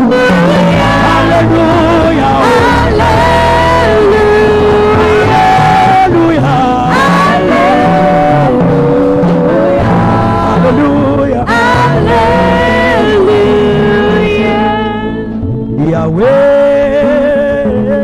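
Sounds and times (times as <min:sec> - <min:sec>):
live gospel band music: 0:00.0 - 0:18.0.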